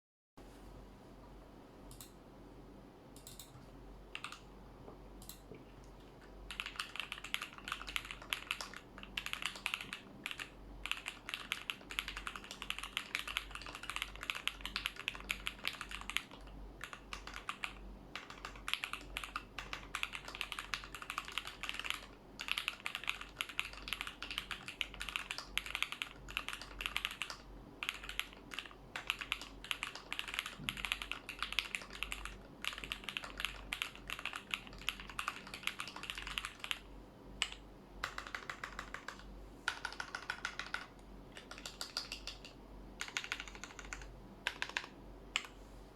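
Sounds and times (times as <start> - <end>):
mechanical keyboard typing: 3.2 - 4.4, 6.5 - 45.5.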